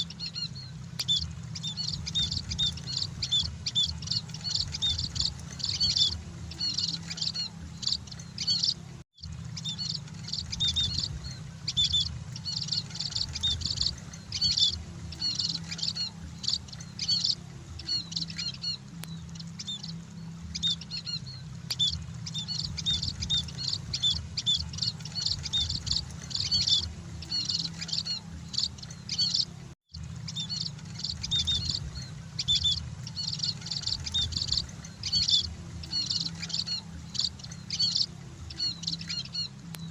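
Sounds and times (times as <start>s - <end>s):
munias chirping: 0.0s - 39.9s
steady low hum: 0.0s - 39.9s.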